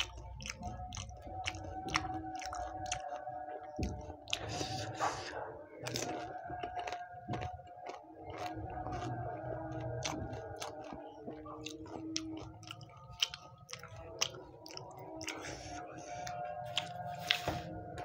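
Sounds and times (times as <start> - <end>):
crunchy chewing: 0.0 - 17.8.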